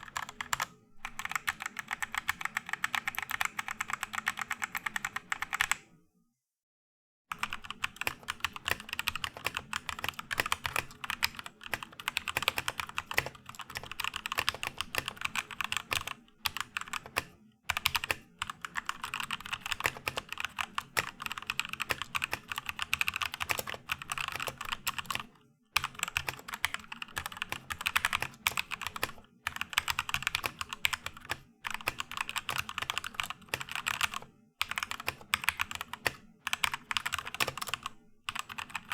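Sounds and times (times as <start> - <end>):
typing on mechanical keyboard: 0.0 - 5.9, 7.3 - 38.9.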